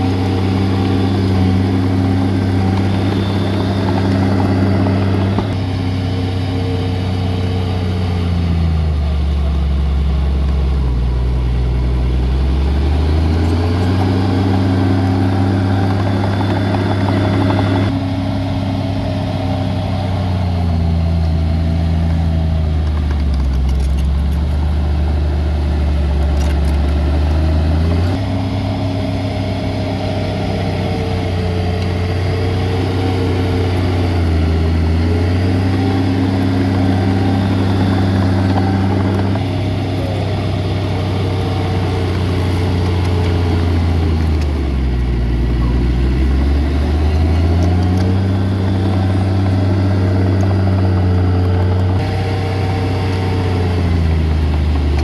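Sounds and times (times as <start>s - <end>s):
heavy diesel engine revving: 0.0s - 55.0s.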